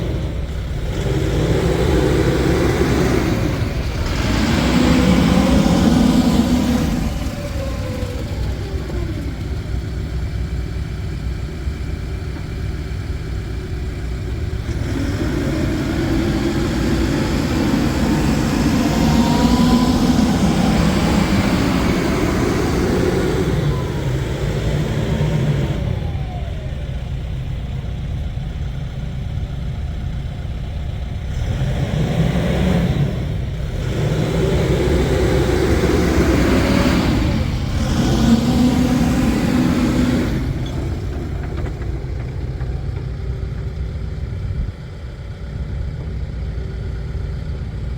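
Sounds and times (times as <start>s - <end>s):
backhoe diesel engine revving: 0.0s - 47.9s.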